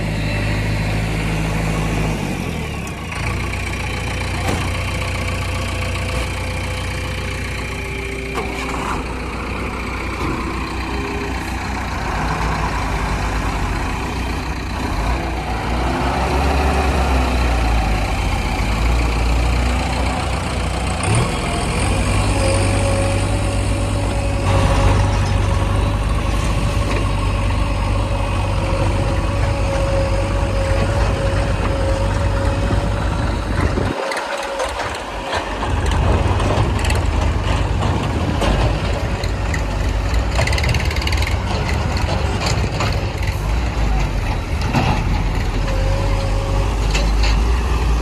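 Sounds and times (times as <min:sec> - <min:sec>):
diesel machinery engine running: 0:00.0 - 0:48.0.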